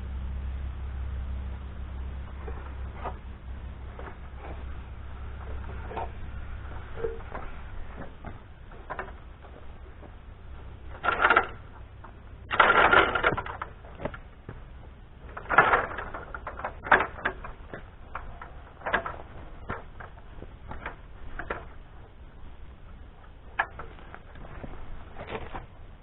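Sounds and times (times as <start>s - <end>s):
low steady rumble: 0.0s - 26.0s
knocks and clatter: 2.3s - 22.6s, 23.2s - 25.8s.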